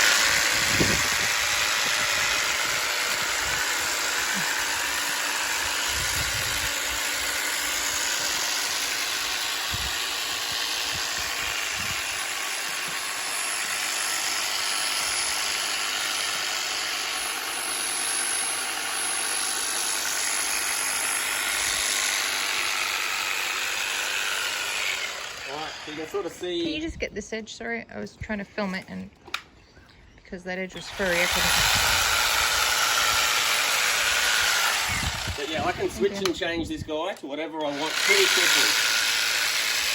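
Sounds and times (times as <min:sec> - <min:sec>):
hedge trimmer cutting: 0:00.0 - 0:26.9, 0:30.6 - 0:39.9.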